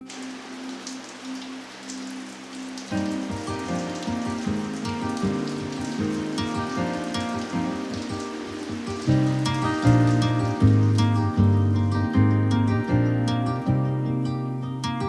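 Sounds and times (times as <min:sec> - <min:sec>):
rain falling: 0:00.0 - 0:14.9
background music: 0:00.1 - 0:15.0.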